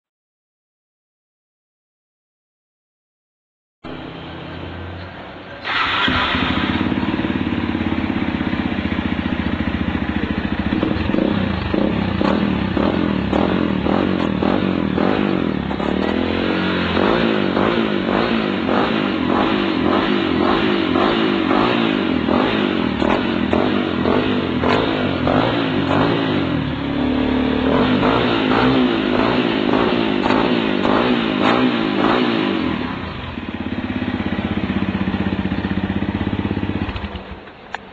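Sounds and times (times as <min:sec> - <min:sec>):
motorcycle engine revving: 0:03.8 - 0:37.6.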